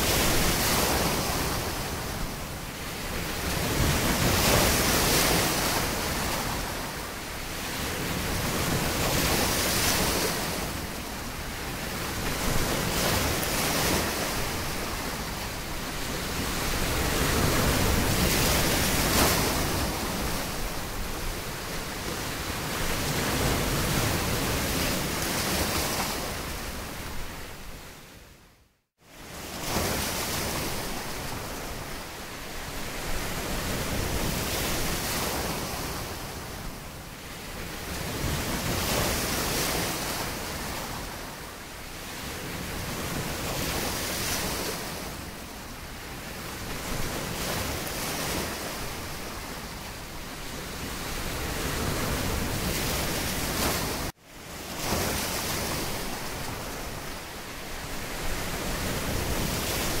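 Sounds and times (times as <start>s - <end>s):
ocean waves washing: 0.0s - 28.2s, 29.0s - 60.0s.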